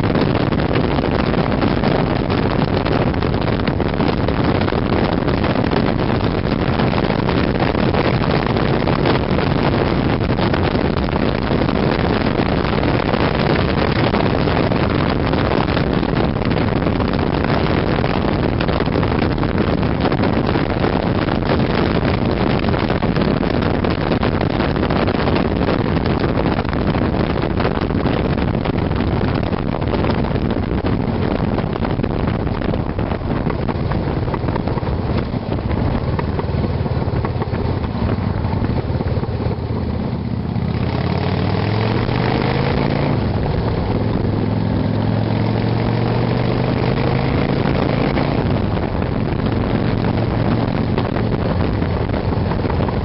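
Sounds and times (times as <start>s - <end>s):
motorcycle engine running: 0.0s - 53.0s
wind rushing on microphone: 0.0s - 53.0s.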